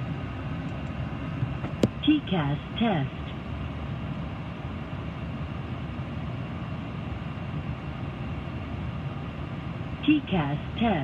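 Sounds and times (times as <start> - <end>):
cockpit rumble and hiss: 0.0 - 11.0.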